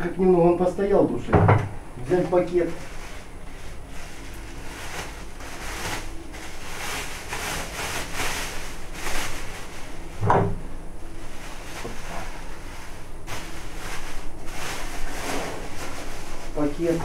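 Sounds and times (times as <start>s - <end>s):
plastic bag rustling: 2.1s - 17.0s.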